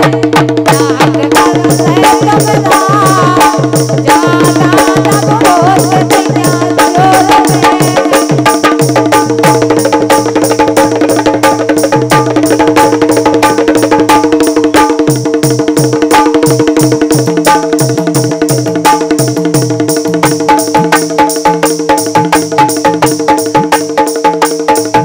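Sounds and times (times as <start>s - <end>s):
dholak drum beat: 0.0s - 25.0s.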